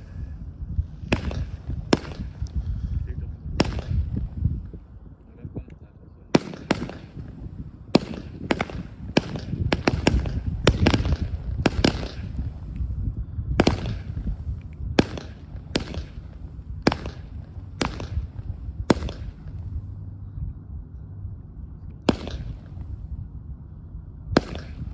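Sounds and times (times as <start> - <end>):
firework bangs: 0.0 - 4.9, 6.3 - 20.0, 22.0 - 23.1, 24.4 - 24.9
low rumble: 0.0 - 24.9.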